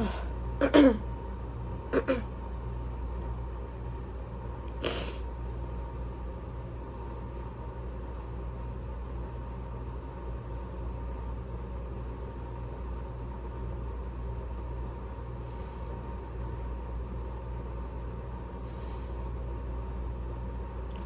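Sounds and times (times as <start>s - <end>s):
low hum and rumble: 0.0s - 21.0s.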